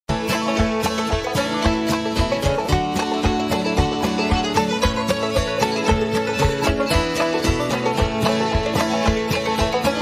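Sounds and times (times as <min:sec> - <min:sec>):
upbeat bluegrass music: 0:00.1 - 0:10.0.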